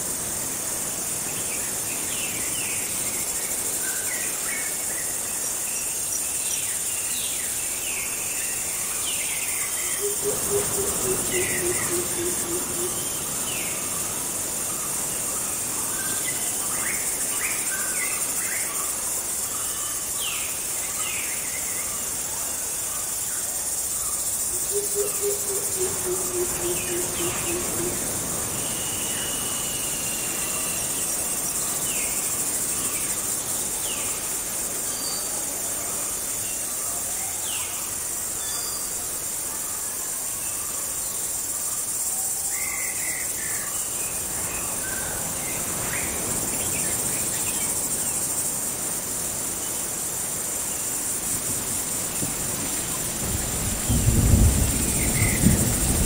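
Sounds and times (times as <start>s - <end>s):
high drone of insects: 0.0s - 56.0s.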